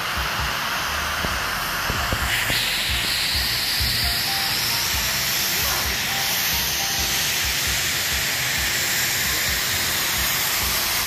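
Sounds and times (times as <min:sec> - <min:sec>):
snowmaking guns spraying: 0:00.0 - 0:11.0.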